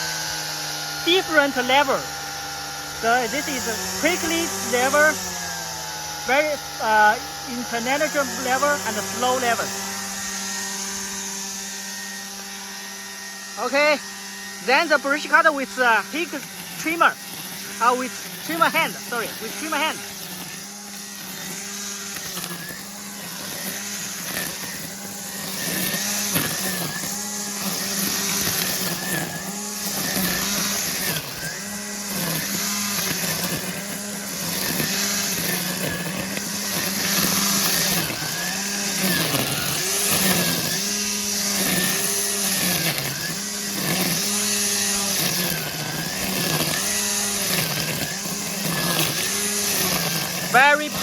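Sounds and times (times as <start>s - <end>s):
hedge trimmer motor whining: 0.0s - 51.0s.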